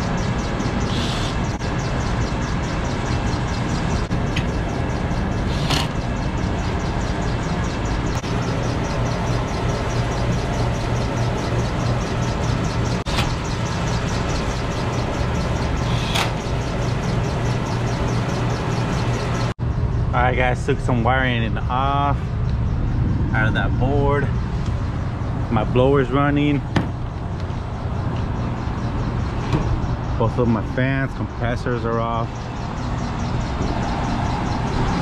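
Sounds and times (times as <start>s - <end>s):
machine noise: 0.0s - 35.0s.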